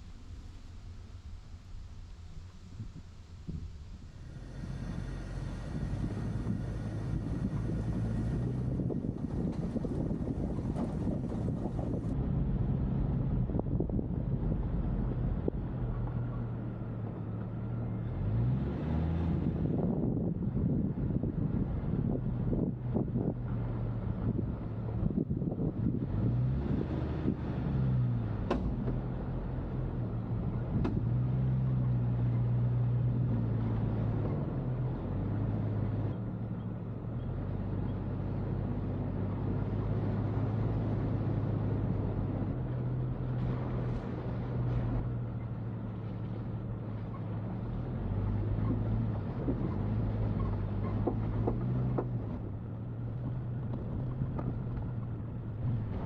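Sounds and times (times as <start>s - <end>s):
road noise: 0.0s - 56.0s.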